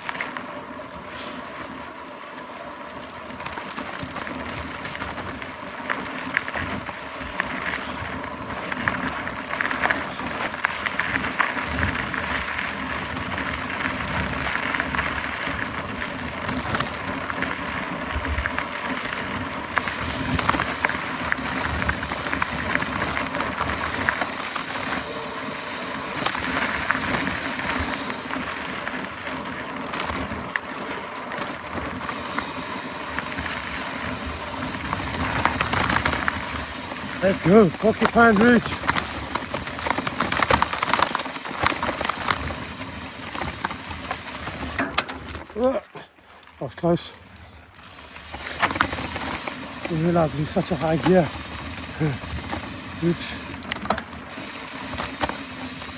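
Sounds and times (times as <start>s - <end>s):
bike rattling over bumps: 0.0s - 55.9s
tyre and wind noise: 3.2s - 45.9s, 47.4s - 55.9s.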